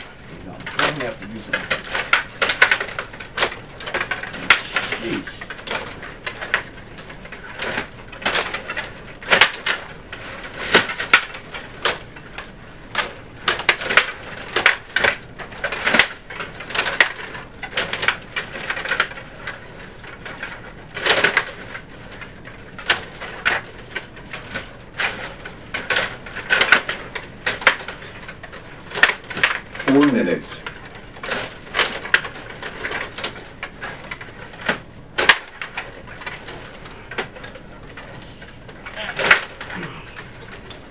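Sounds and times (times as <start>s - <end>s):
table hockey pieces clacking: 0.0s - 40.9s.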